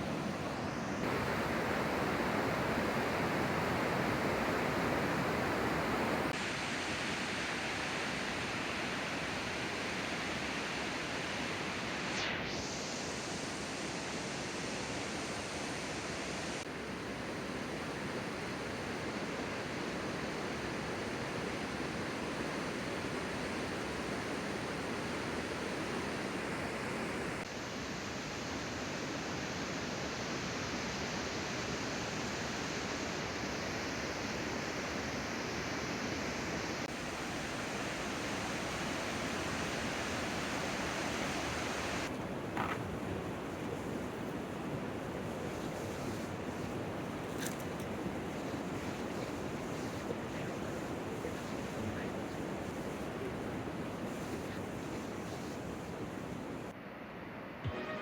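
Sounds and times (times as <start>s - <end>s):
rushing outdoor noise: 0.0s - 57.8s.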